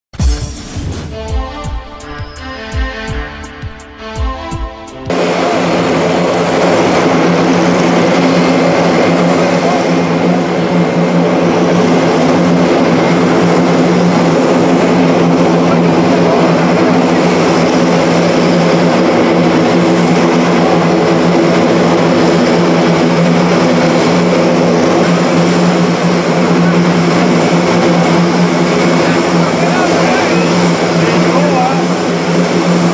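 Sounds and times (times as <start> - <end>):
turboprop engines droning: 0.1 - 32.9.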